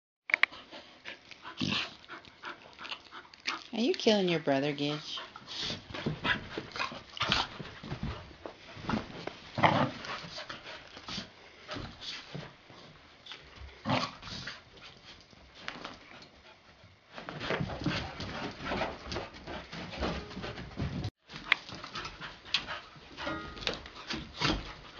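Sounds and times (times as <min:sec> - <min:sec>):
puppies scuffling on carpet: 0:04.0 - 0:24.9.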